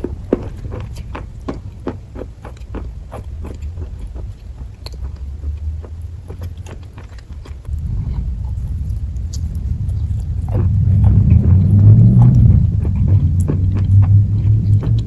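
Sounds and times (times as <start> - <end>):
low rumble: 0.0 - 15.0
person chewing: 0.0 - 15.0.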